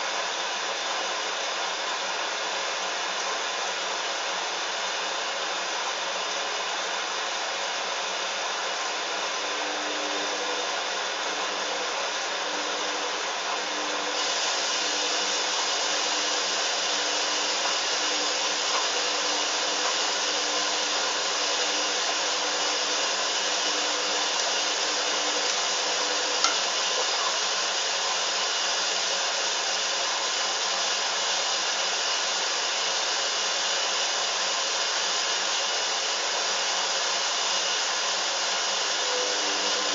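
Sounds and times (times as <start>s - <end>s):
washing machine whirring: 0.0s - 39.9s.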